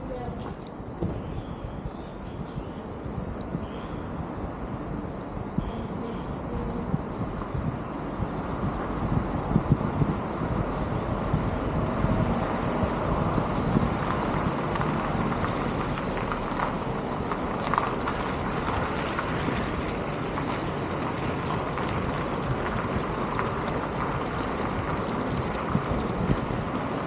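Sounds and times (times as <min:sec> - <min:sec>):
city traffic: 0:00.0 - 0:27.0
wind on microphone: 0:00.0 - 0:27.0.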